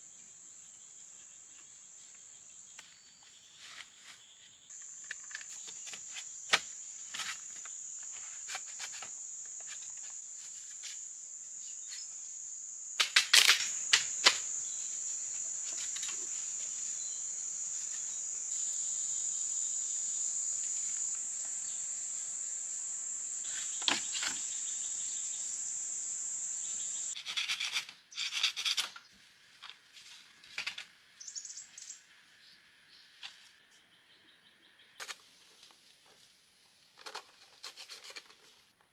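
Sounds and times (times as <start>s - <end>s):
insects buzzing: 0.0s - 28.7s, 31.2s - 35.3s.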